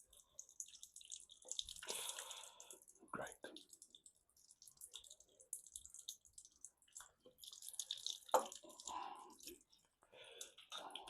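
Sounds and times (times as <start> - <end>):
coolant dripping and splashing: 0.0 - 11.0.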